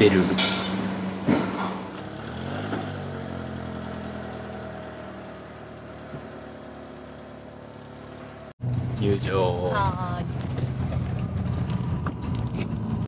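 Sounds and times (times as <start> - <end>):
van engine running: 0.0 - 13.0.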